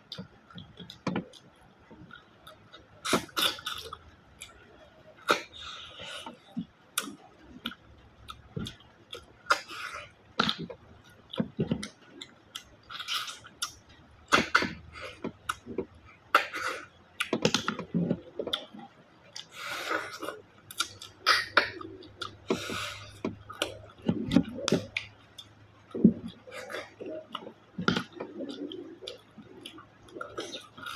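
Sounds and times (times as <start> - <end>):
chewing: 0.0 - 30.9.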